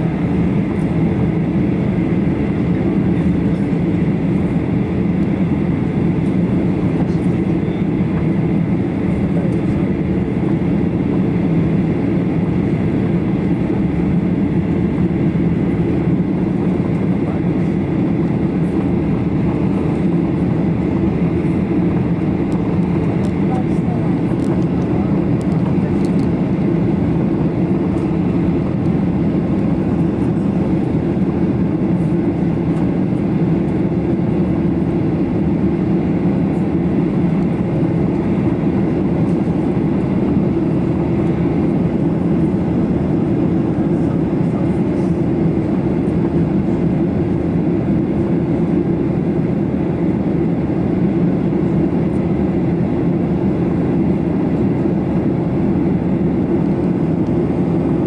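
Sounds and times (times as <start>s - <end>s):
jet engine cabin drone: 0.0s - 58.0s.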